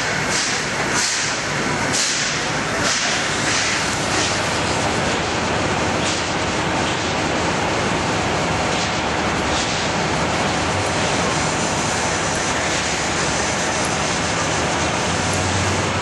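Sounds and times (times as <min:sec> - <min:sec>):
fire truck engines rumbling: 0:00.0 - 0:16.0.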